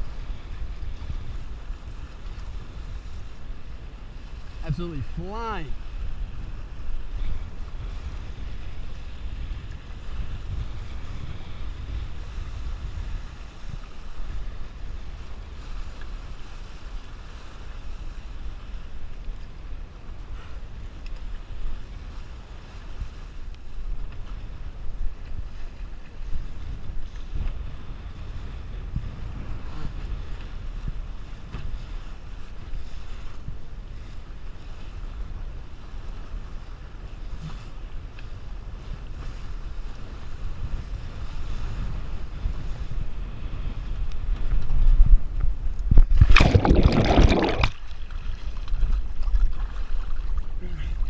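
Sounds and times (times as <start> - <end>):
water splashing along hull: 0.0 - 51.0
wind buffeting microphone: 0.0 - 51.0.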